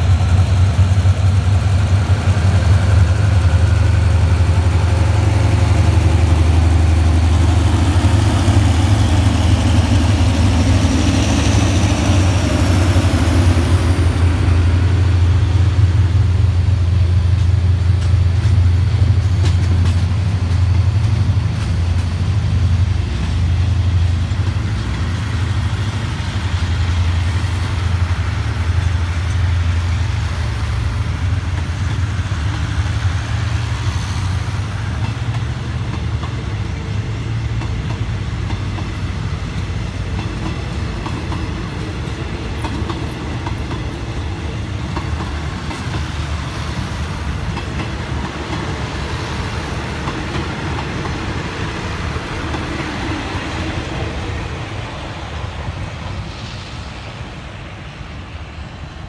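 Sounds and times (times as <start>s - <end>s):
train coaches rolling past: 0.0s - 59.0s.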